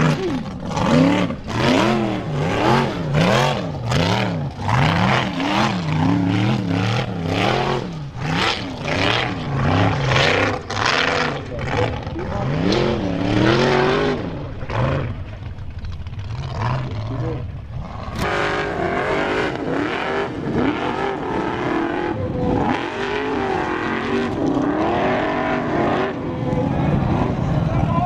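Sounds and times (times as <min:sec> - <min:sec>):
buggy engine revving: 0:00.0 - 0:28.0.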